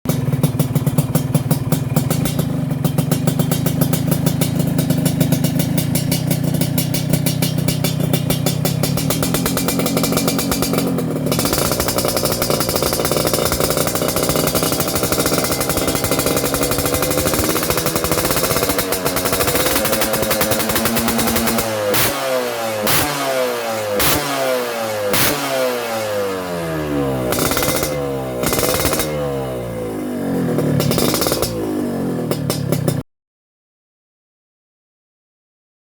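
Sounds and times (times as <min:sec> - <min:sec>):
two-stroke motorcycle engine revving: 0:00.1 - 0:33.0.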